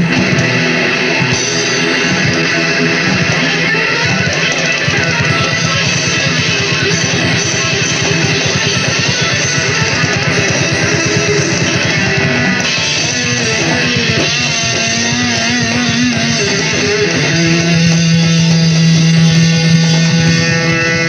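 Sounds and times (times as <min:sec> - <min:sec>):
distorted electric guitar: 0:00.0 - 0:21.0.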